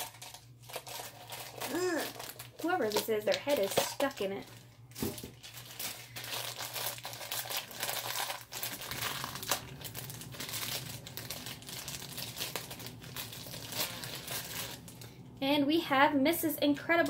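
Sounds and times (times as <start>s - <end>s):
packaging crackling and rustling: 0.0s - 15.1s.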